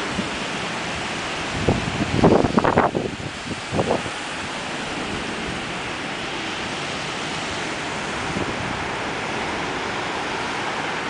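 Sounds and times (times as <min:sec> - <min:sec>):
strong wind rushing through trees: 0:00.0 - 0:11.0.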